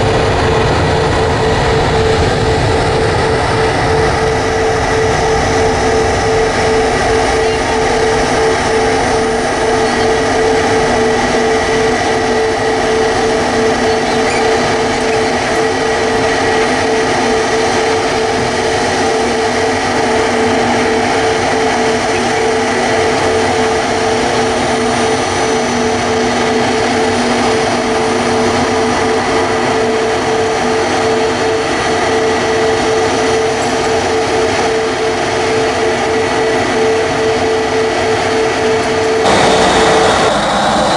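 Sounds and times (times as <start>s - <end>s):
jet engine droning whine: 0.0s - 40.9s.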